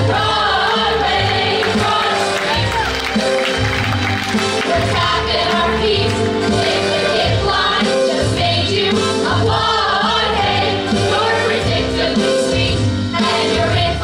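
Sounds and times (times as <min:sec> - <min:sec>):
instrumental accompaniment: 0:00.0 - 0:14.0
mixed chorus singing show tune: 0:00.0 - 0:14.0.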